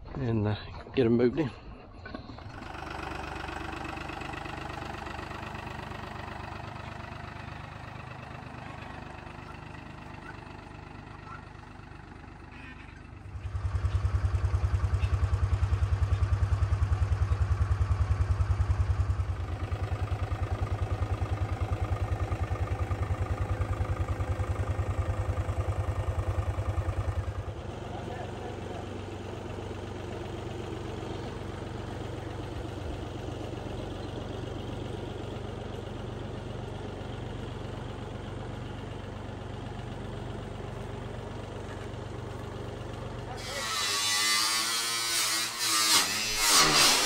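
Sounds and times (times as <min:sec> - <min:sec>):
tractor engine running: 0:01.7 - 0:45.4.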